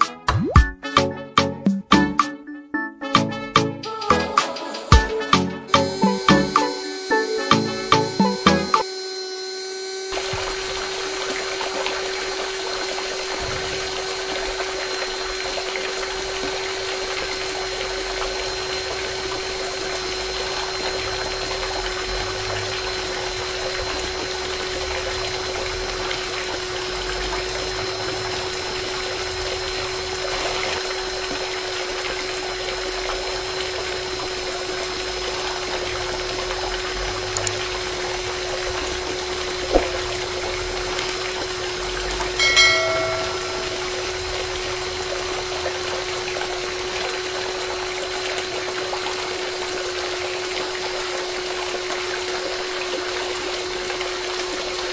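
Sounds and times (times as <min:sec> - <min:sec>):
small motor whining: 0:05.7 - 0:54.9
stream of water pouring: 0:10.1 - 0:54.9.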